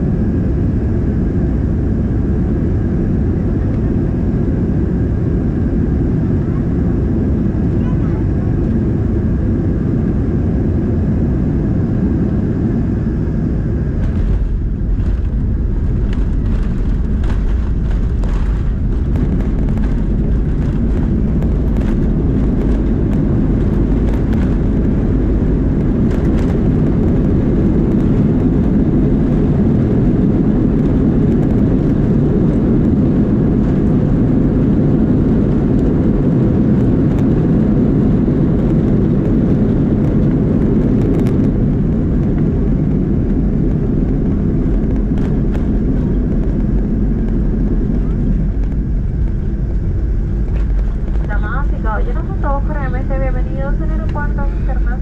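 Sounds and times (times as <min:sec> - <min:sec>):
jet engine reverse thrust rumble: 0:00.0 - 0:55.0.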